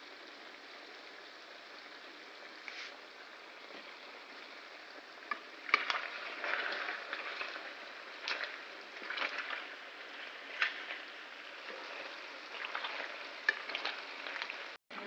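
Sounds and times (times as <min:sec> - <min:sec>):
food sizzling in hot oil: 0:00.0 - 0:14.8.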